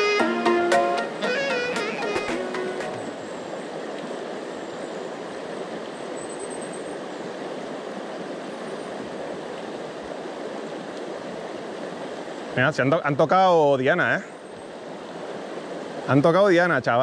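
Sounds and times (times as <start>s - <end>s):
river water rushing over stones: 0.0s - 16.9s.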